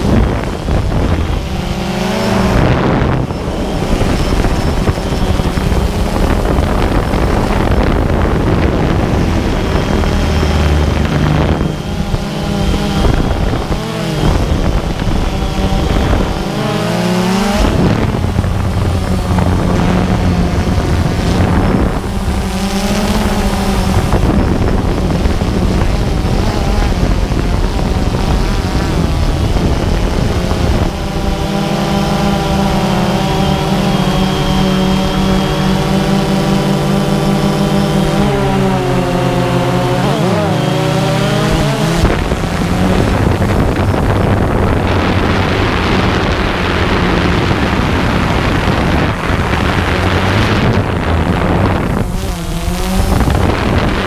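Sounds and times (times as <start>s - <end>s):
drone propellers whirring: 0.0s - 54.0s.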